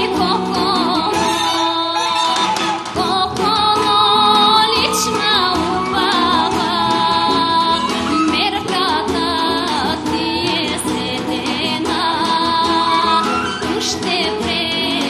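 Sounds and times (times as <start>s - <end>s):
instrumental accompaniment: 0.0s - 15.0s
woman singing folk song: 0.0s - 15.0s.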